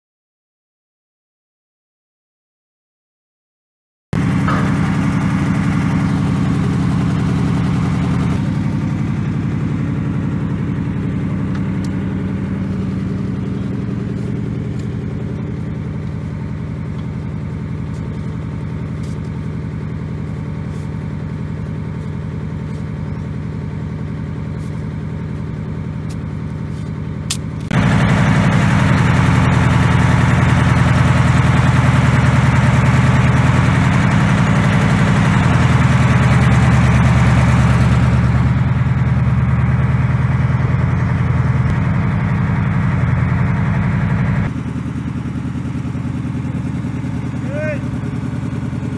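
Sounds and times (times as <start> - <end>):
truck engine running: 4.2 - 48.9.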